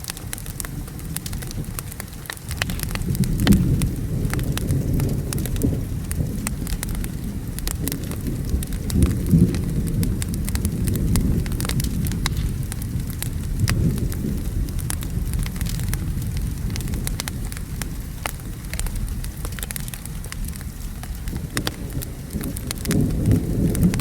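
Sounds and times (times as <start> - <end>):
steady rain: 0.0 - 24.0
wood fire crackling and popping: 0.0 - 24.0
rolling thunder: 0.2 - 24.0.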